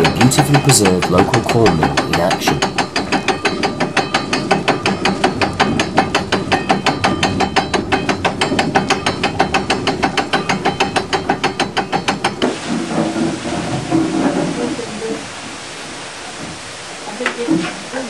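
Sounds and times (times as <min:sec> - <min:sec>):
wooden mill shoe clacking: 0:00.0 - 0:15.0.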